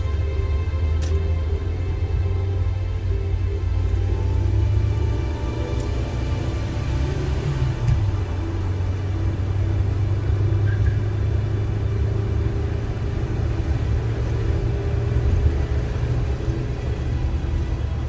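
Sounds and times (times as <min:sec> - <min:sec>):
car road and engine drone: 0:00.0 - 0:18.0.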